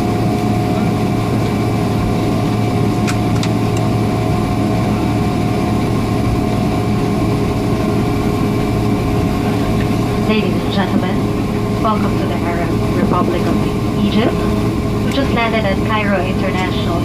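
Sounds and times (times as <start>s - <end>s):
airplane cabin hum: 0.0s - 17.0s.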